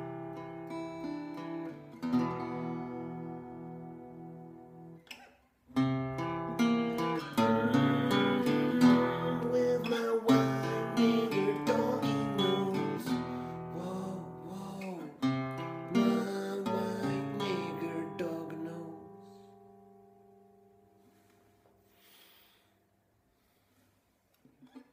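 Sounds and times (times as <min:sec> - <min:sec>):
acoustic guitar strumming: 0:00.0 - 0:22.2.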